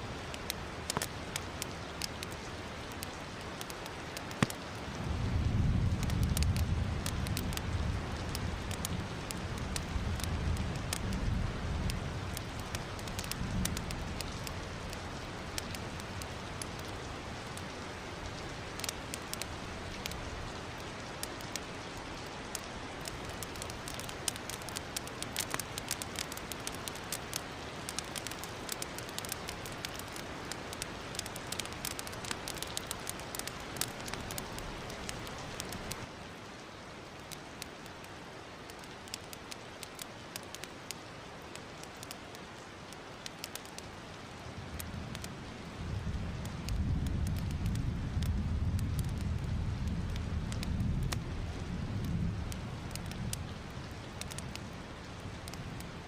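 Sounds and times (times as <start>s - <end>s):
wood fire crackling and popping: 0.2s - 36.1s, 37.2s - 56.0s.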